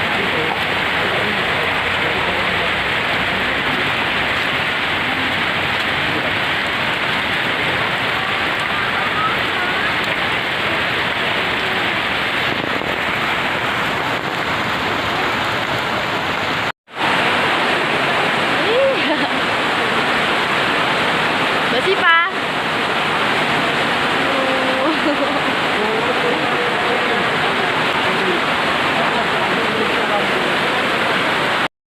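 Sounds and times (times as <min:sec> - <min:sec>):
waterfall rushing: 0:00.0 - 0:31.7.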